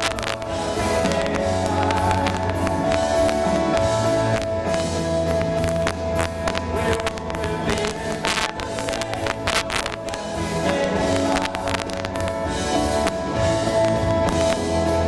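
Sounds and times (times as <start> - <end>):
bass line: 0.0 - 15.0
electric guitar: 0.0 - 15.0.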